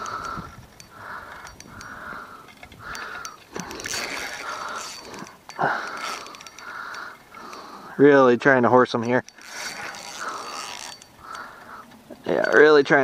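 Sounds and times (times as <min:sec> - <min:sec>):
fishing reel clicking: 0:00.0 - 0:07.9, 0:09.0 - 0:12.8.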